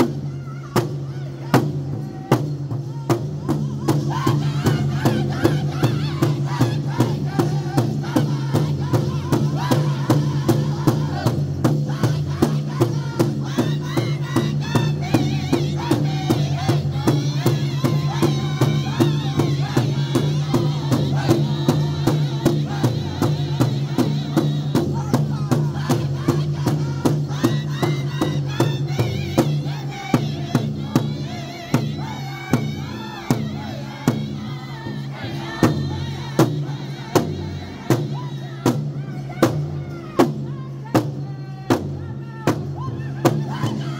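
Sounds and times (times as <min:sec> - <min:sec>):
large drum beating: 0:00.0 - 0:43.8
group singing in high voices: 0:00.0 - 0:43.9.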